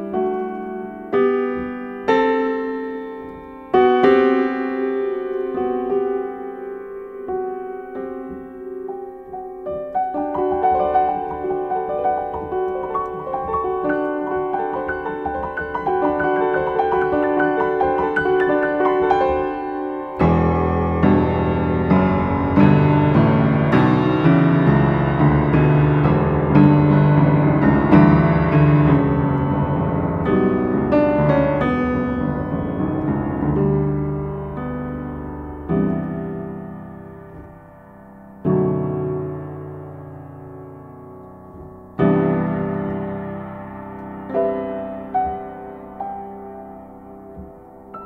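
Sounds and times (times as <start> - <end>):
upright piano playing slow piece: 0.0 - 48.0.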